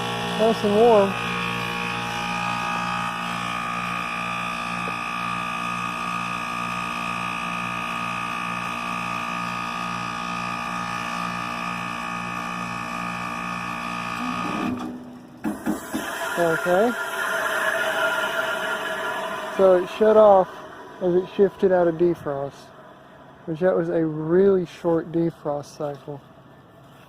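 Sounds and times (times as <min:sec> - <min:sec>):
heat pump compressor humming and whining: 0:00.0 - 0:27.0.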